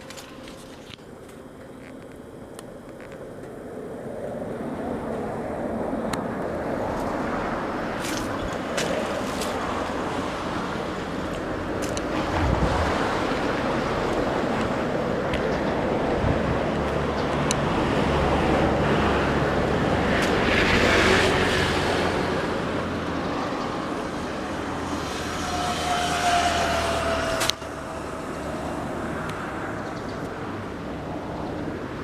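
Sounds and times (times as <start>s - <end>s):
vehicle engine hum: 0.0s - 32.0s.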